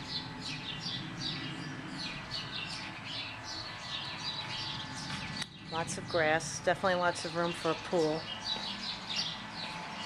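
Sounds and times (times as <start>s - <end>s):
low steady hum: 0.0s - 10.0s
small birds chirping: 0.0s - 10.0s.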